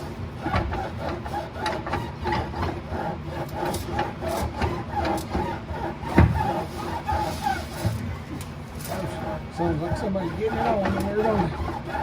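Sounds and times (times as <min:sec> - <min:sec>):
rapid squeaking with light knocks: 0:00.0 - 0:12.0.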